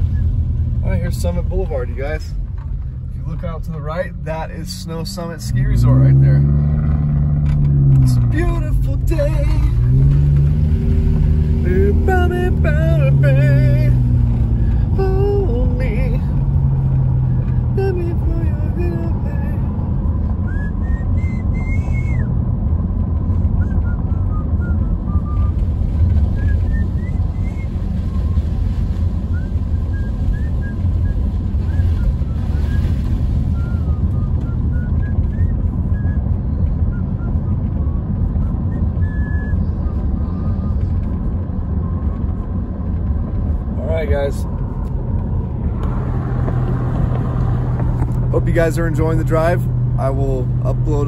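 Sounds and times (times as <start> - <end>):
car engine rumble: 0.0 - 51.0.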